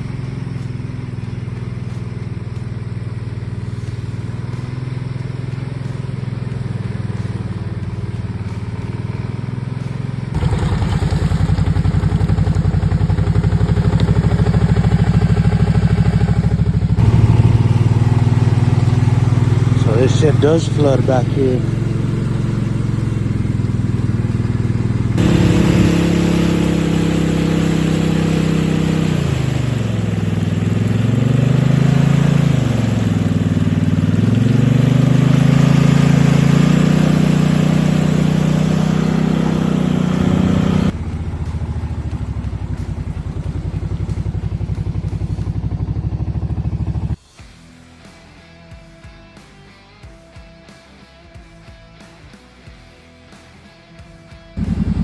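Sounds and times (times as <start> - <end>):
vehicle engine at low revs: 0.0 - 47.3, 54.4 - 55.0.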